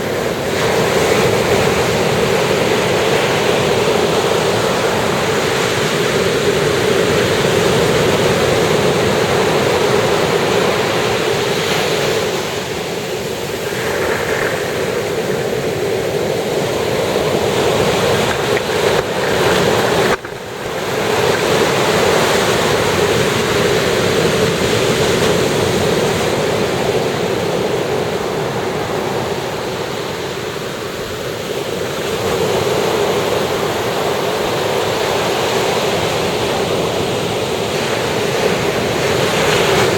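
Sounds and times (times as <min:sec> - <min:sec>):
ocean surf washing on shore: 0:00.0 - 0:39.9.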